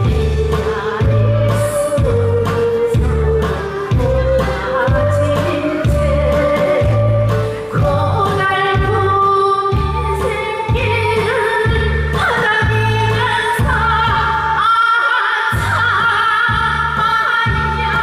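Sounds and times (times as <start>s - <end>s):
woman singing with vibrato: 0.0s - 18.0s.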